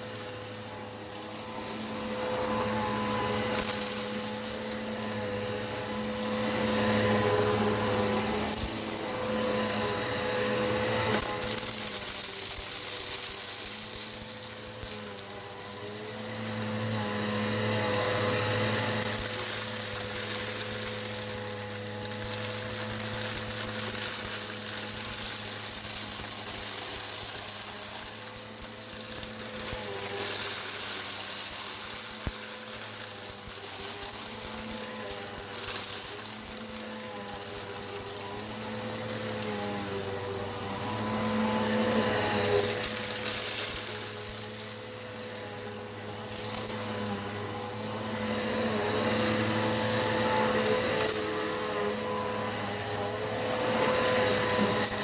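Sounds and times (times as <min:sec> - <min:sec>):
vacuum cleaner sucking up debris: 0:00.0 - 0:55.0.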